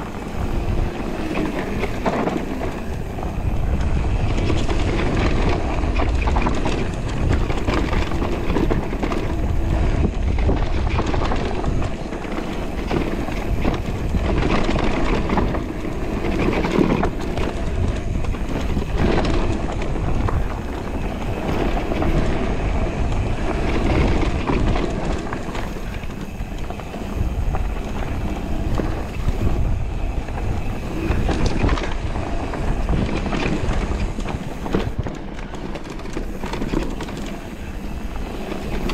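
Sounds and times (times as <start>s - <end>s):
bike rattling and knocking: 0.0s - 38.9s
bike tyres on dirt: 0.0s - 38.9s
wind rumble on microphone: 0.0s - 38.9s.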